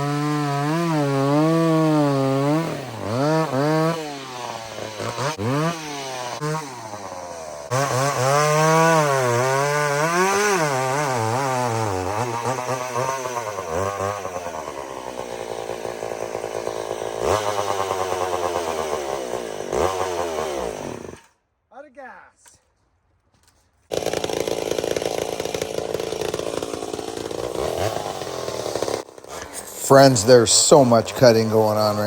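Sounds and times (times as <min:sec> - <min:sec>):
two-stroke chainsaw running: 0:00.0 - 0:21.4, 0:23.9 - 0:32.0.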